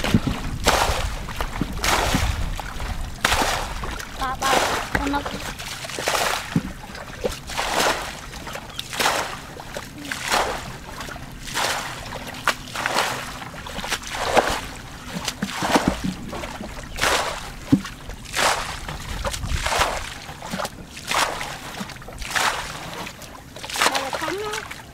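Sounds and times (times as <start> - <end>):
water splashing from bucket: 0.0 - 24.9.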